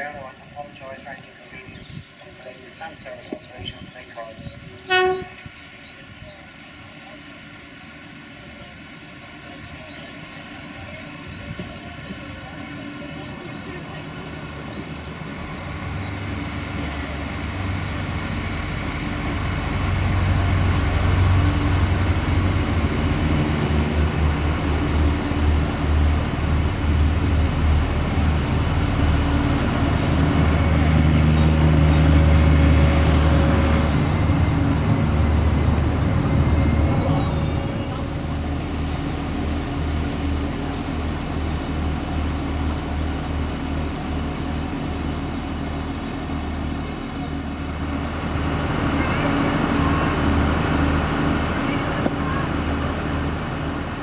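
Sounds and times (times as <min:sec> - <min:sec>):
diesel train engine drone: 0:00.0 - 0:54.0.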